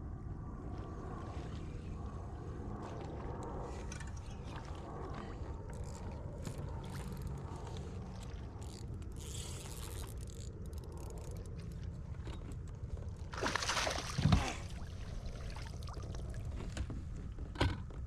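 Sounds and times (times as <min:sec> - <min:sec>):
steady low rumble: 0:00.0 - 0:13.4, 0:14.0 - 0:18.0
water trickling around kayak hull: 0:02.9 - 0:13.4, 0:14.0 - 0:18.0.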